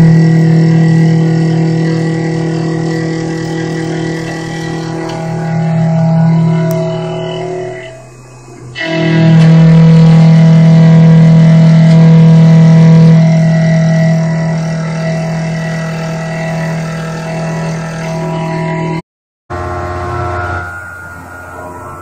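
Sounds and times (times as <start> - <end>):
milling machine cutting metal: 0.0 - 22.0.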